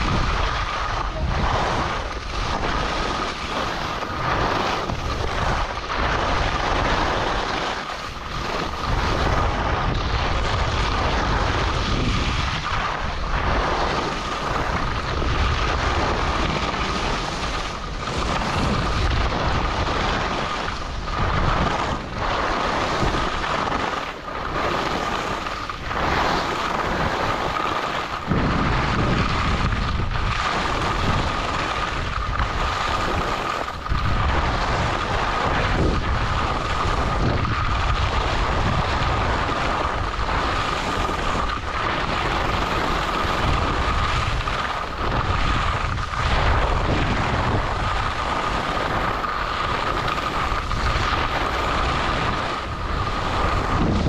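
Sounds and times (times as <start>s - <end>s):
skis scraping over snow: 0.0s - 54.0s
wind rushing over microphone: 0.0s - 54.0s.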